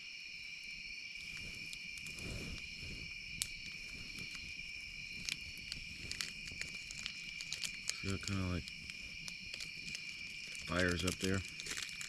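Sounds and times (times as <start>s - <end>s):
campfire crackling: 0.0s - 12.0s
crickets chirping: 0.0s - 12.0s.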